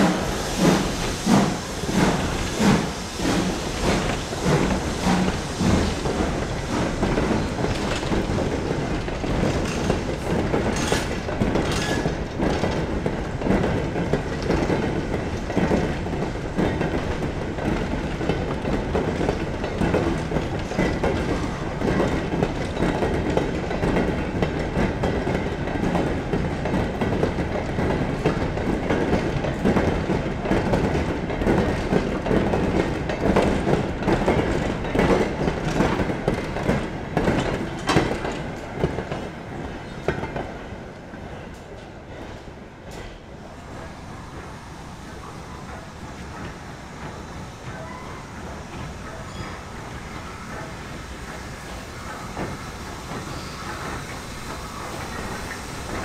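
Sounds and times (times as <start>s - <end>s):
steam locomotive exhaust beats: 0.0s - 39.0s, 43.4s - 56.0s
wheels clacking over rail joints: 0.7s - 56.0s.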